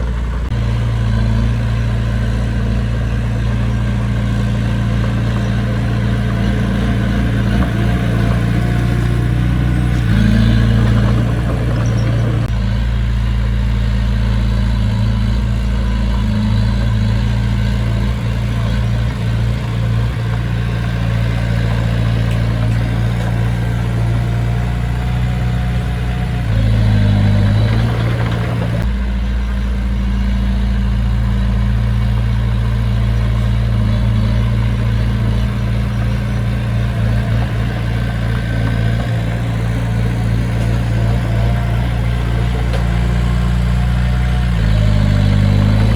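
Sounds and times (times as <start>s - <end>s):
diesel engine of heavy machinery: 0.0s - 45.9s.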